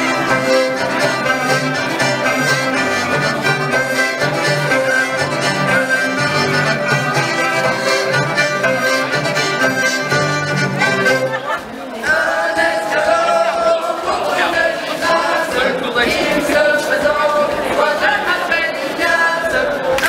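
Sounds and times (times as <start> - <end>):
fiddles playing: 0.0 - 19.7
accordion: 0.0 - 20.0.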